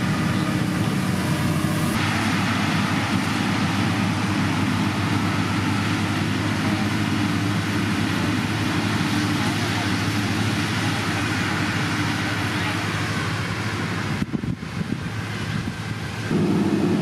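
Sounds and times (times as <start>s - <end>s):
diesel engines running under load: 0.0s - 17.0s.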